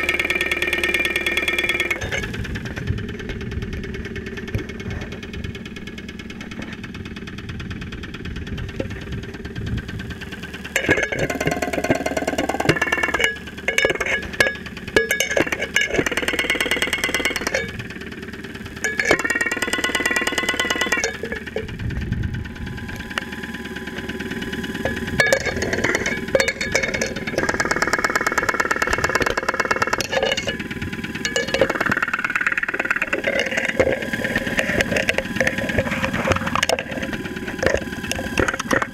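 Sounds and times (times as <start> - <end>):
car engine ticking: 0.0 - 38.9.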